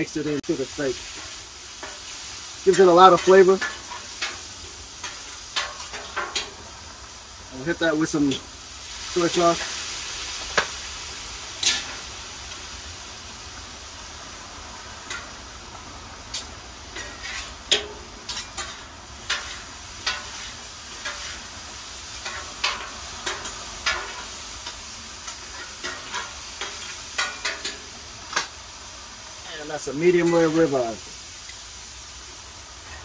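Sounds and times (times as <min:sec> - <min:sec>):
steak sizzling on a griddle: 0:00.0 - 0:33.0.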